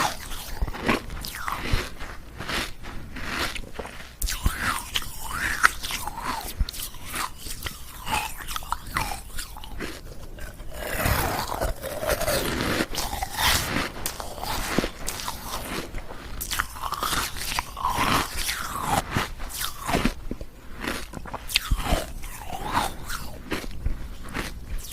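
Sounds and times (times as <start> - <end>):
ice cubes being chewed: 0.0 - 24.9.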